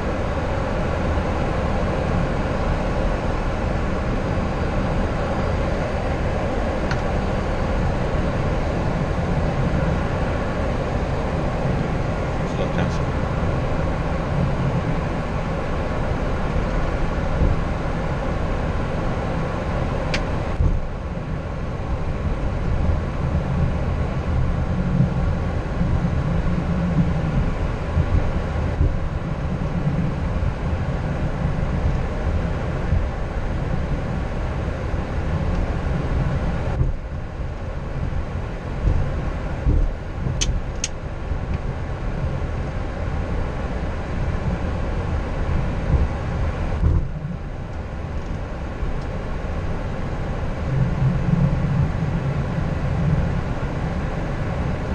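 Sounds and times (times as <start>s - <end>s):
jet cockpit rumble and hum: 0.0s - 54.9s.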